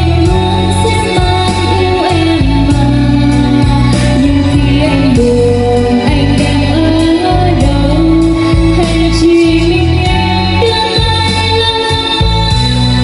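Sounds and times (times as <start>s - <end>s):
backing track with heavy bass: 0.0s - 13.0s
woman singing into microphone: 0.0s - 13.0s.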